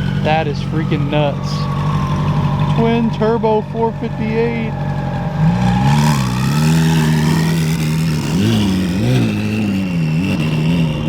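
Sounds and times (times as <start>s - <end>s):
car engine throttle blips: 0.0s - 11.0s
high whine: 0.0s - 11.0s.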